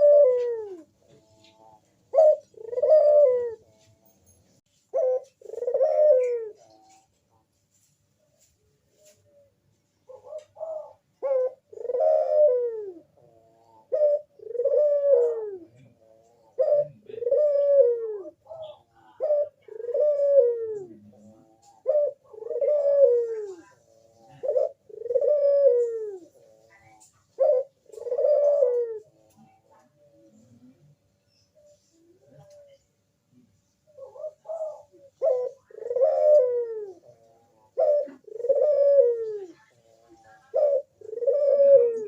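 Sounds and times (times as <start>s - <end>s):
dove cooing: 0.0s - 7.5s, 9.0s - 32.9s, 33.8s - 42.0s.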